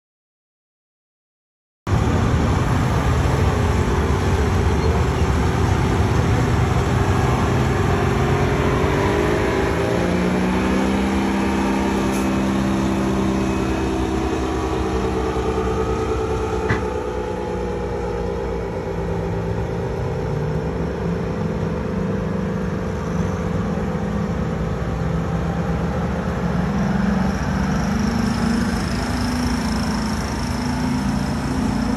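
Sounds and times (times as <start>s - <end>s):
diesel truck engine running: 1.9s - 31.9s.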